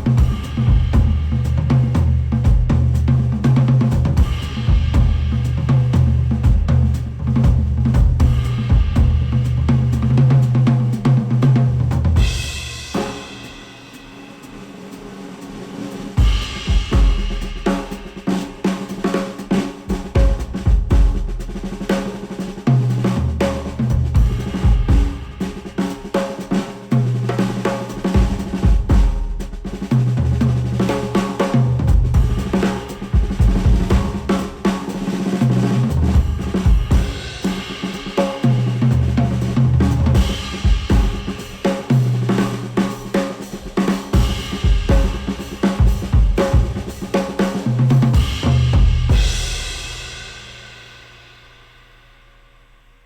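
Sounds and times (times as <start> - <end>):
drum-driven music with bass: 0.0 - 51.0.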